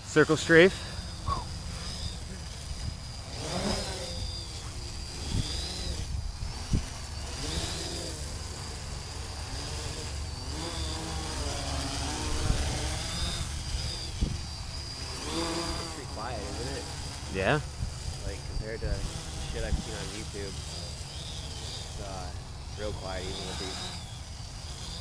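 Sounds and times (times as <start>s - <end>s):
drone motors buzzing: 0.0s - 25.0s.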